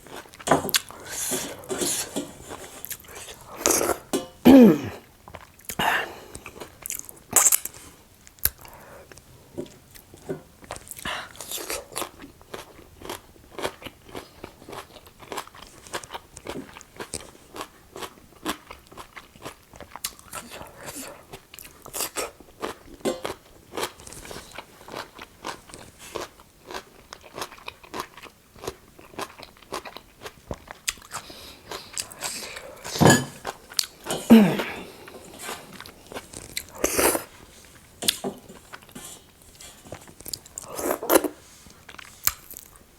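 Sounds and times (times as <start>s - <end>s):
person chewing crunchy food: 0.0s - 4.1s, 4.9s - 42.9s.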